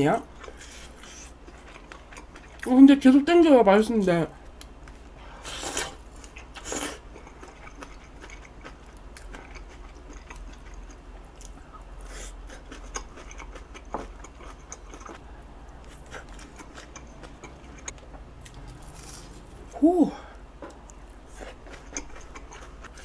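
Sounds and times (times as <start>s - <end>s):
person chewing food: 0.1s - 2.7s, 4.5s - 23.0s.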